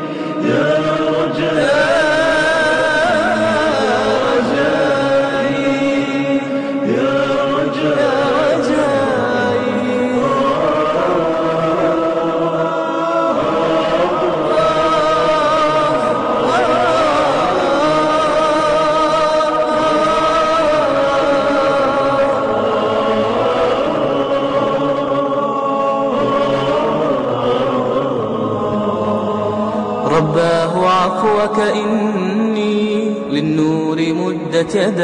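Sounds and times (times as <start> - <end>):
wordless vocal chorus: 0.0 - 35.0.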